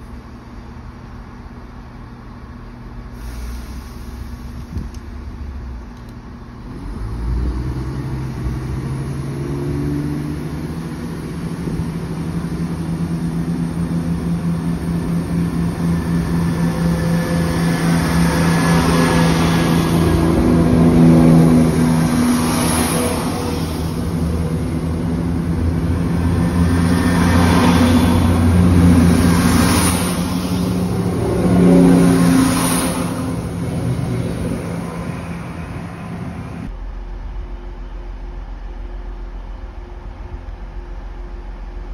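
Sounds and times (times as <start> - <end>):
diesel train engines running: 0.0 - 41.9.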